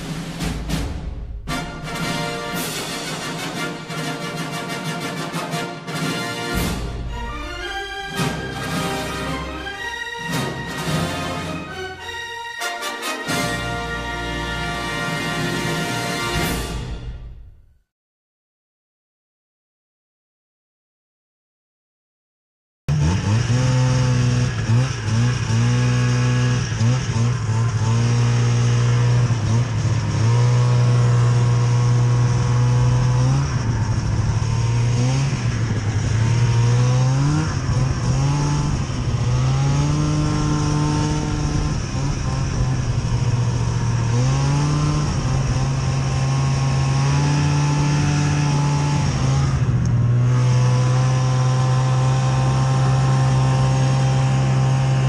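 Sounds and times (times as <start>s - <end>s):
snowmobile engine revving: 1.5s - 16.9s, 22.9s - 55.0s.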